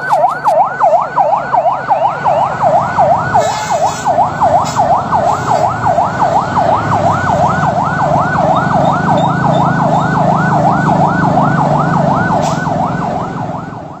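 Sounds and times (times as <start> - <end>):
electronic siren yelping: 0.0 - 14.0.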